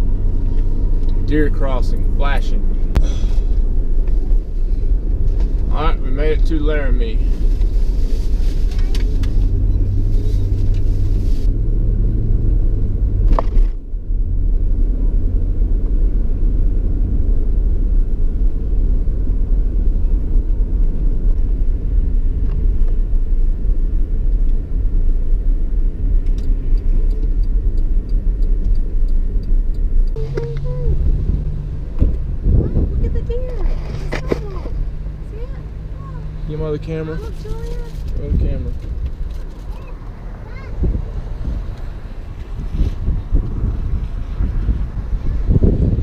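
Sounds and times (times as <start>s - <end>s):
truck engine and tyres rumble: 0.0s - 46.0s.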